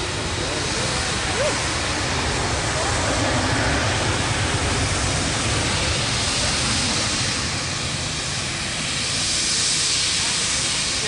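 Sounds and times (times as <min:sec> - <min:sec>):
jet engines rushing: 0:00.0 - 0:11.0.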